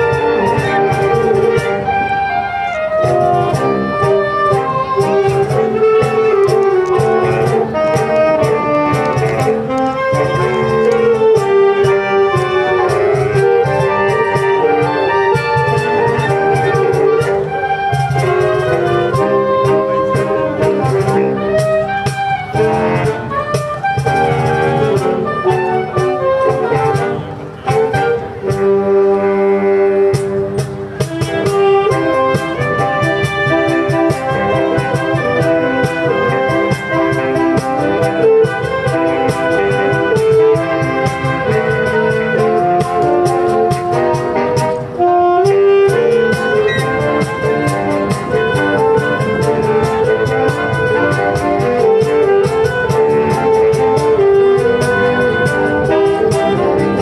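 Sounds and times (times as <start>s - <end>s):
percussion steady beat: 0.0s - 57.0s
saxophone ensemble playing: 0.0s - 57.0s.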